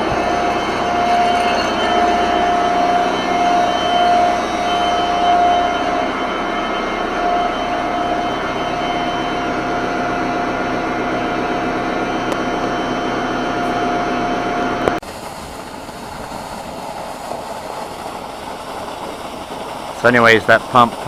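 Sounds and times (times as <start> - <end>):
pump running with whine: 0.0 - 21.0.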